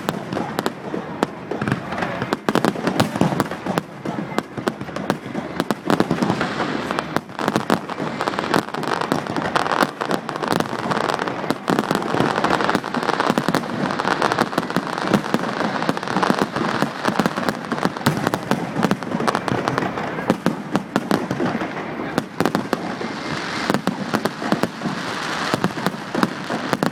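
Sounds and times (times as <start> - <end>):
fireworks bangs and crackling: 0.0 - 26.9.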